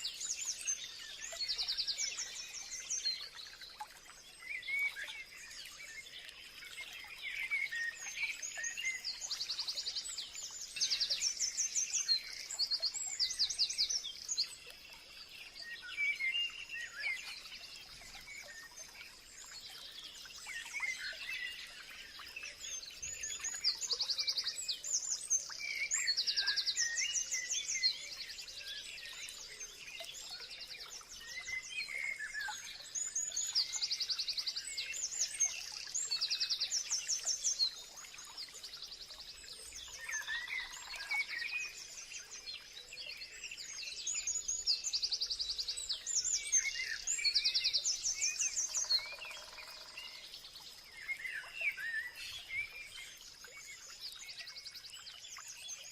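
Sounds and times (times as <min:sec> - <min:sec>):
songbirds chirping and singing: 0:00.0 - 0:55.9.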